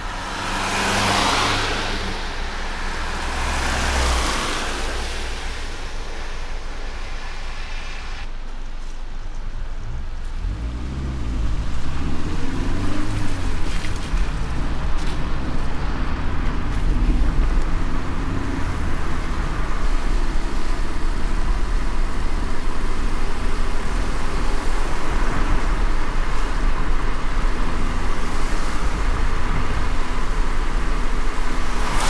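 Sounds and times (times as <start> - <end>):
car road rumble: 0.0 - 32.0
tyre and rain noise: 0.0 - 32.0.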